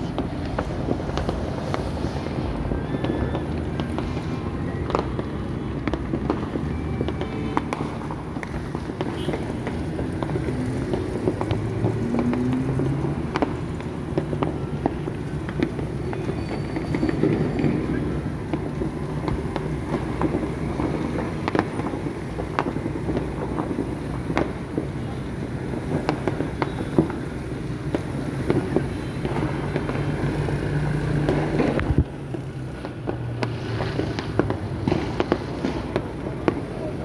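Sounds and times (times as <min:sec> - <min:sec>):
fireworks bangs and pops: 0:00.0 - 0:37.0.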